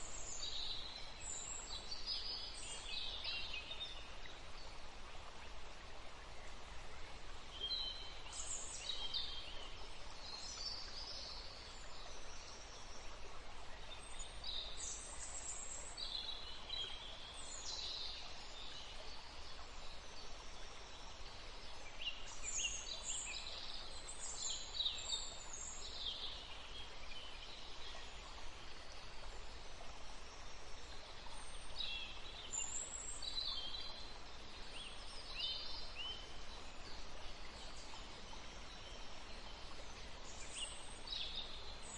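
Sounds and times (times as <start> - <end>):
background hiss: 0.0 - 41.9
songbirds singing and chirping: 6.2 - 41.9.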